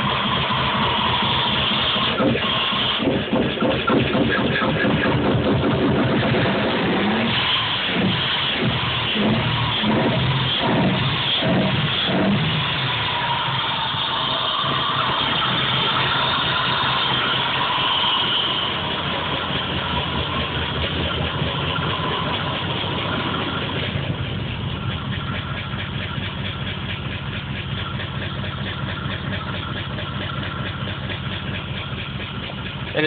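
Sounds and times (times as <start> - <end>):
car engine idling rough: 0.0 - 33.0.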